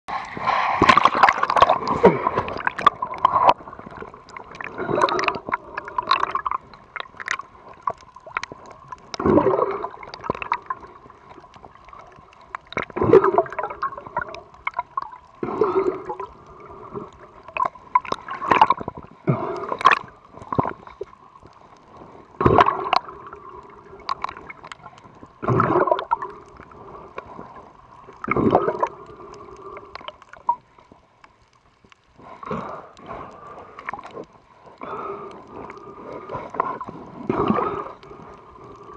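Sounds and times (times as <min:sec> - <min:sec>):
muffled underwater gurgling and sloshing: 0:00.1 - 0:38.9
underwater wash: 0:00.1 - 0:38.9.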